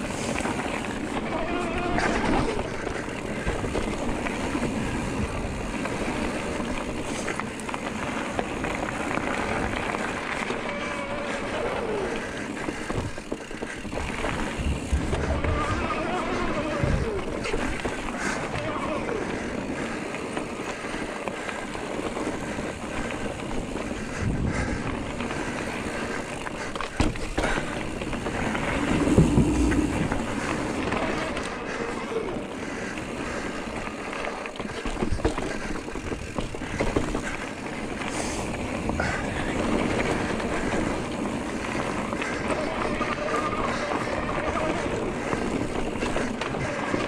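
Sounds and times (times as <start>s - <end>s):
bike tyre noise with rattles: 0.0s - 47.0s.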